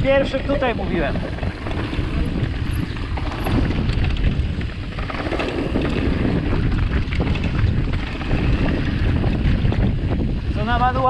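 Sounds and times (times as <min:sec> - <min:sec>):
bike clicks and rattles: 0:00.0 - 0:11.0
bike rumble on dirt trail: 0:00.0 - 0:11.0
wind rushing over microphone: 0:00.0 - 0:11.0.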